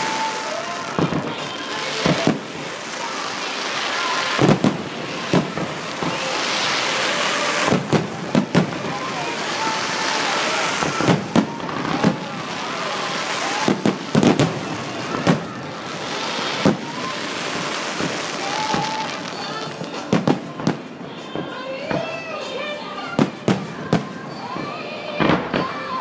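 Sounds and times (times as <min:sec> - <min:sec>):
fireworks bangs: 0:00.0 - 0:26.0
fireworks crackling hiss: 0:00.0 - 0:26.0.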